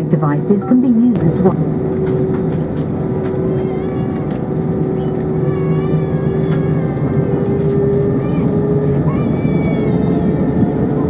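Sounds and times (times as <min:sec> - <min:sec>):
airplane cabin drone: 0:01.2 - 0:11.0
steady tones: 0:01.2 - 0:11.0.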